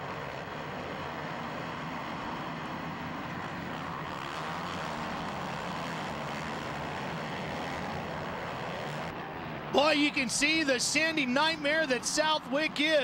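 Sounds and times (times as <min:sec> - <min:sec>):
motocross bike engines racing: 0:00.0 - 0:13.0.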